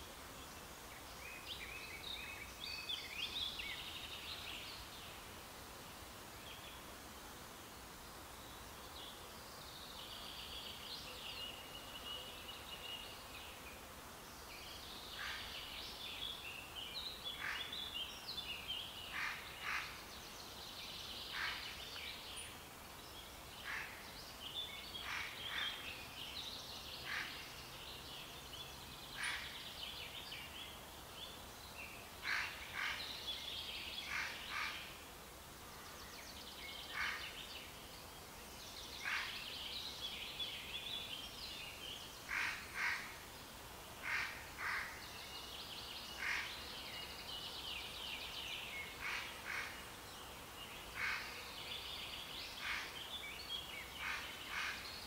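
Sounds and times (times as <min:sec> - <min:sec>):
songbirds singing and calling: 0:00.0 - 0:05.4, 0:08.2 - 0:35.1, 0:35.7 - 0:55.0
faint steady background hiss: 0:00.0 - 0:55.0.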